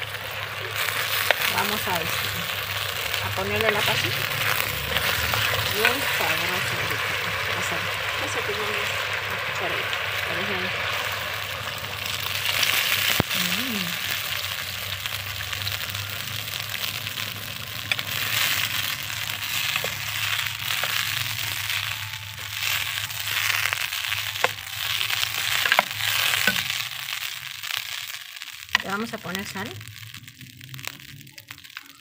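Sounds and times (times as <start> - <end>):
chile sauce sizzling in a pot: 0.0 - 32.0.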